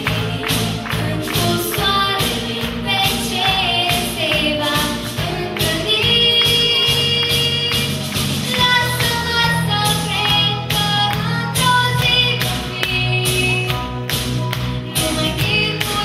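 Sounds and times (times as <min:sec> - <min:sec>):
pop backing track: 0:00.0 - 0:16.0
girl singing into a microphone: 0:00.9 - 0:07.9, 0:08.5 - 0:13.8, 0:14.9 - 0:16.0.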